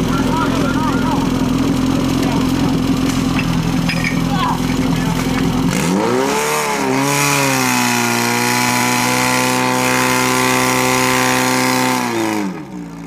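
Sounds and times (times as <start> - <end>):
pump engine revving: 0.0 - 13.0.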